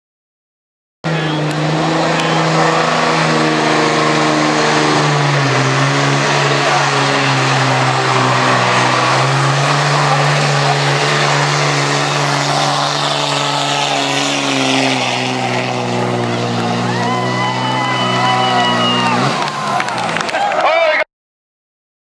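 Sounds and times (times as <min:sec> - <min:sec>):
diesel engine under heavy load: 0:01.1 - 0:20.7.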